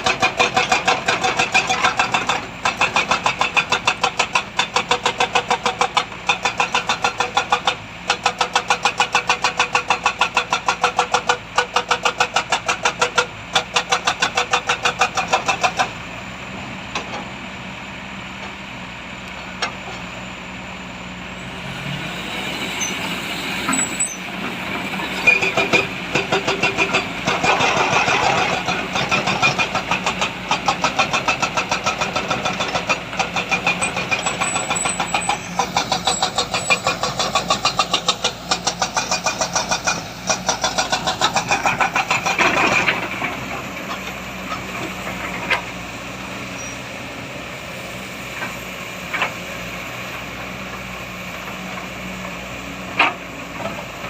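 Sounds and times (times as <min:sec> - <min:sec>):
heavy diesel engine labouring: 0:00.0 - 0:54.0.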